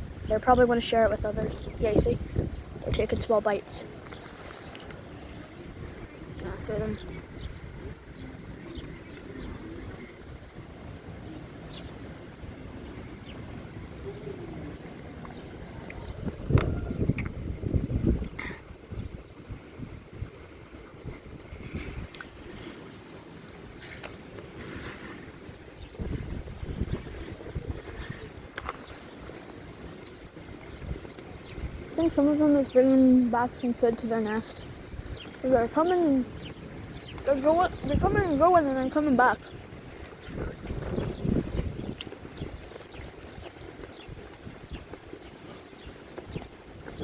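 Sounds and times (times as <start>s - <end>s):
wind rumbling on microphone: 0.0s - 47.0s
sparrows chirping: 0.2s - 10.4s, 11.0s - 17.1s, 25.4s - 47.0s.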